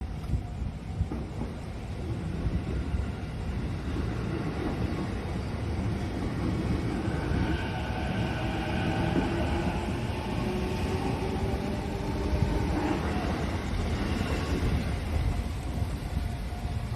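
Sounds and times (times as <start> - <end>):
train low rumble: 0.0 - 16.9.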